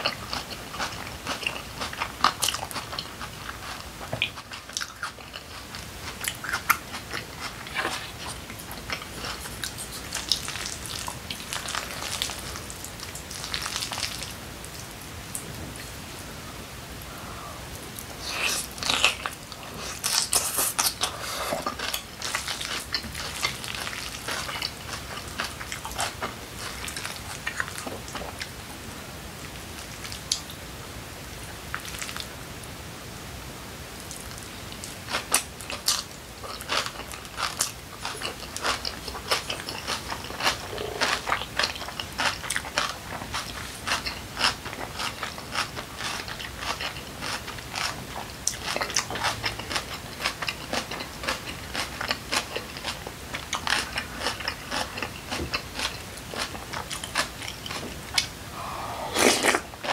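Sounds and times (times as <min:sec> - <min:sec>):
person chewing food: 0:00.0 - 0:14.3, 0:17.1 - 0:28.6, 0:34.1 - 0:59.9.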